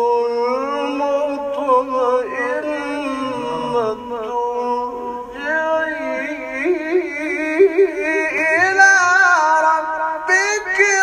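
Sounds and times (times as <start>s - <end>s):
man chanting recitation: 0.0s - 11.0s.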